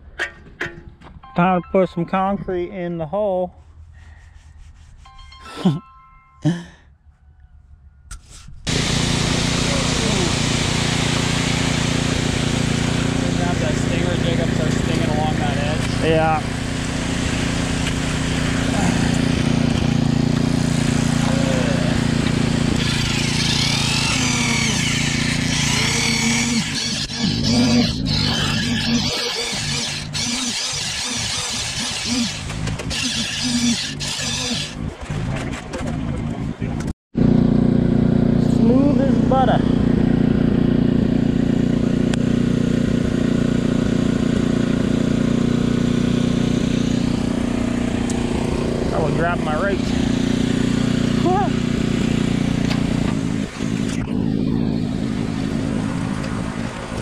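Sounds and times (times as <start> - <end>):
diesel engine running steadily: 8.7 - 57.0
machinery droning: 8.7 - 57.0.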